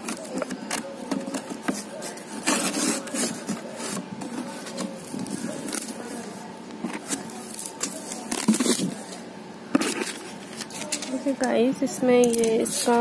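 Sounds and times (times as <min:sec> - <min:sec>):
cardboard rubbing and scraping: 0:00.0 - 0:10.9.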